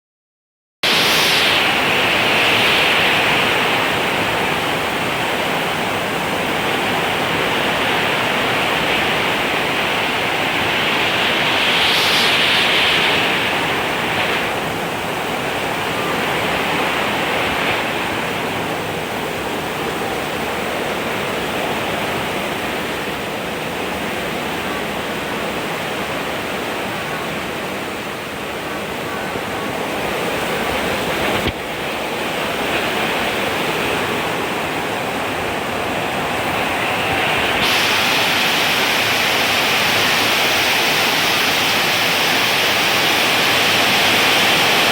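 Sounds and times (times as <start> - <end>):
steady rain falling: 0.8 - 44.9.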